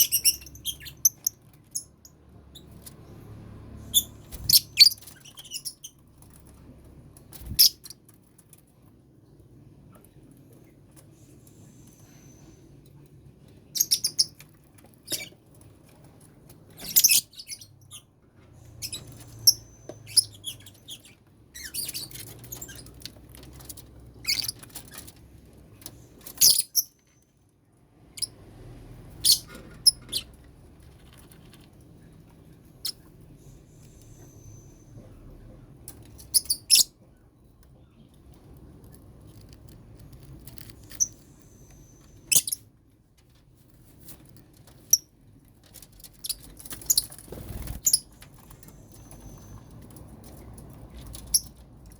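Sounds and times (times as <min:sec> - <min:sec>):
birds chirping and squeaking: 0:00.0 - 0:08.6, 0:11.3 - 0:27.3, 0:27.9 - 0:37.1, 0:37.7 - 0:51.9.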